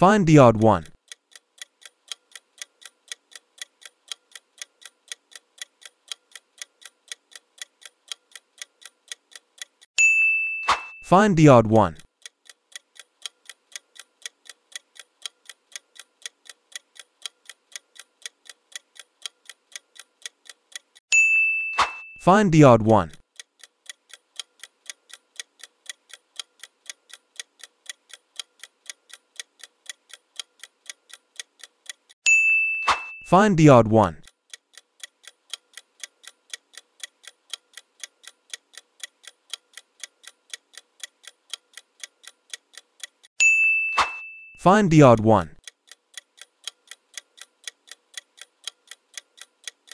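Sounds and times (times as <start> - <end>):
clock ticking: 0.0 - 9.9, 10.7 - 21.1, 21.8 - 32.2, 32.8 - 43.4, 44.0 - 49.9.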